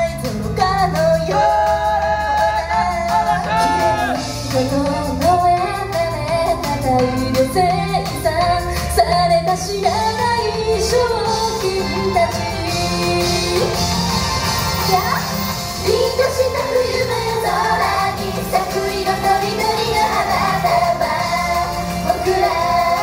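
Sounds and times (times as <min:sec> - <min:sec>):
female group singing pop song: 0:00.0 - 0:23.0
pop instrumental with steady beat: 0:00.0 - 0:23.0.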